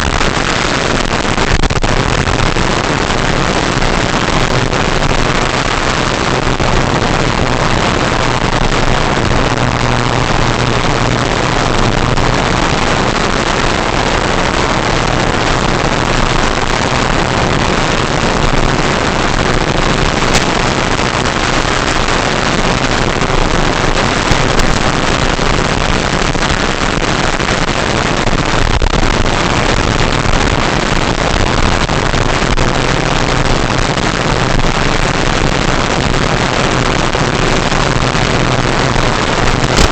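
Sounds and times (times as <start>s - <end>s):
low motor hum: 0.0s - 39.9s
wind and propeller noise: 0.0s - 39.9s.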